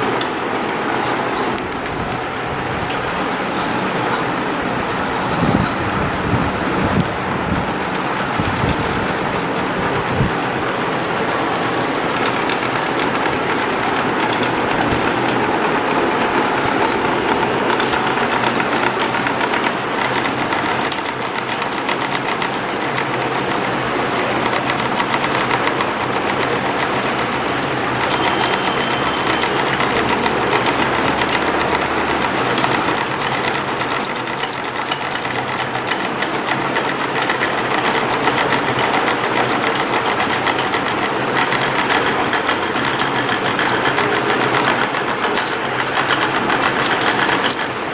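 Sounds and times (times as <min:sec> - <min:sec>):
stepper motors chattering buzz: 0:08.2 - 0:47.9.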